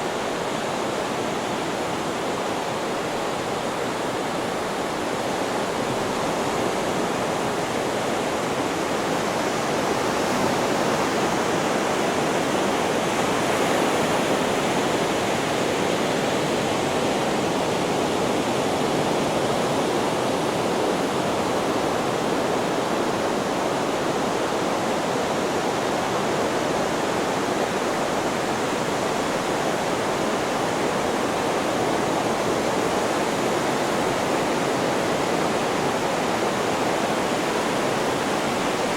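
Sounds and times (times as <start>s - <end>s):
steady white noise: 0.0s - 38.9s.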